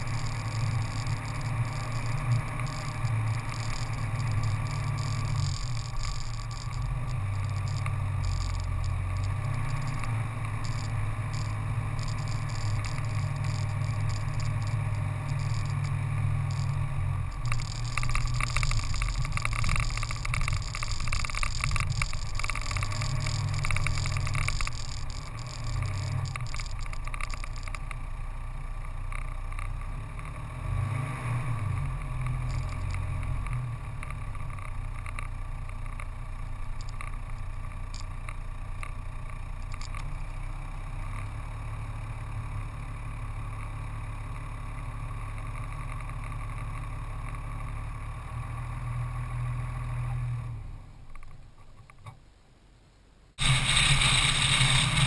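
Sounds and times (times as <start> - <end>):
vehicle rumbling on dirt track: 0.0 - 52.2, 53.4 - 55.0.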